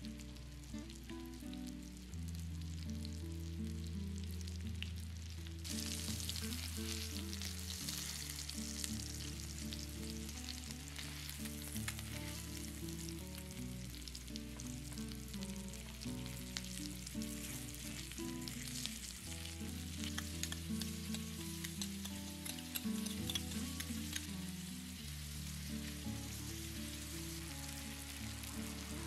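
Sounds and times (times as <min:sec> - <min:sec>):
chicken sizzling in oil: 0:00.0 - 0:29.0
soft background music: 0:00.0 - 0:29.0
oil popping: 0:04.2 - 0:29.0.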